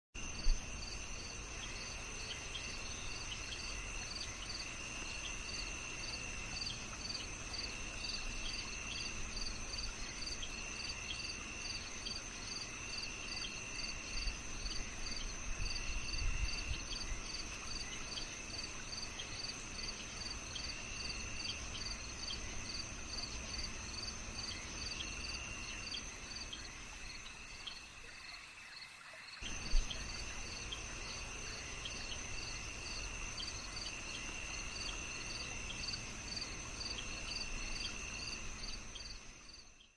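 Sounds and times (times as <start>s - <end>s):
lower cricket trill: 0.2s - 39.9s.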